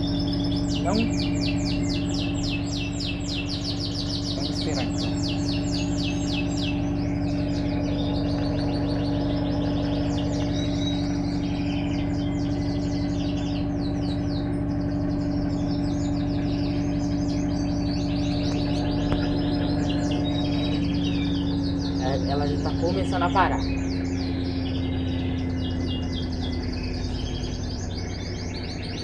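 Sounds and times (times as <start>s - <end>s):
birds chirping: 0.0s - 29.0s
washing machine humming: 0.0s - 29.0s.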